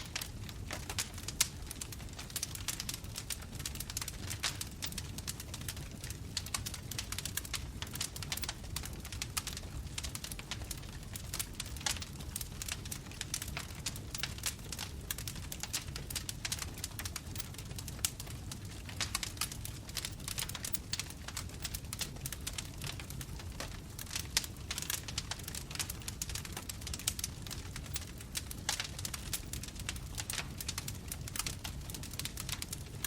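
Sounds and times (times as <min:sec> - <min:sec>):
burning wood snapping and popping: 0:00.0 - 0:33.0
low rumble of flames: 0:00.0 - 0:33.0.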